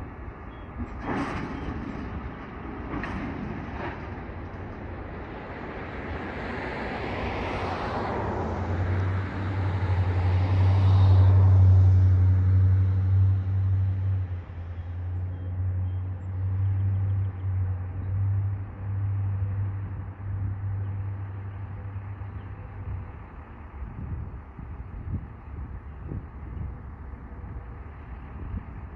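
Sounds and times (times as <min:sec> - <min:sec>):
diesel locomotive engine drone: 0:00.0 - 0:28.9.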